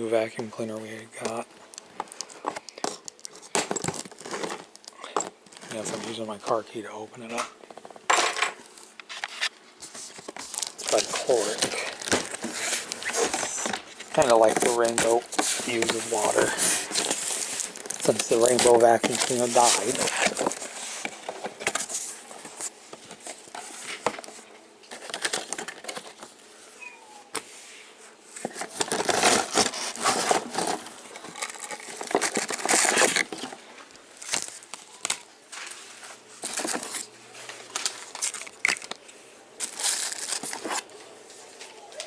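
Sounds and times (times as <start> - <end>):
cardboard and plastic wrap rustling: 0.6 - 6.6, 8.7 - 26.4, 27.4 - 39.0, 39.6 - 42.0.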